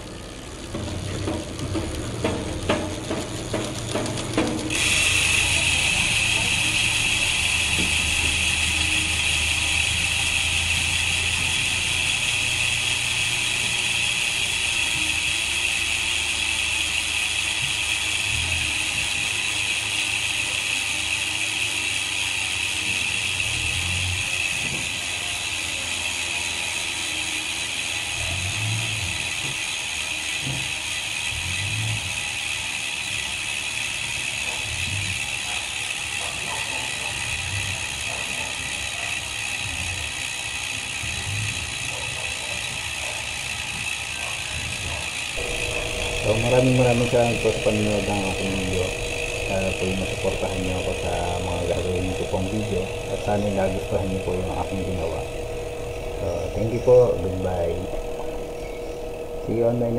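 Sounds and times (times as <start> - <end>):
bike hub freewheel clicking: 0.0 - 59.9.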